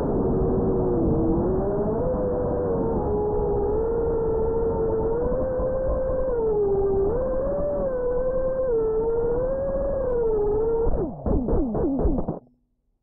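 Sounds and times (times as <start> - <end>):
drone motors whining: 0.3 - 12.4.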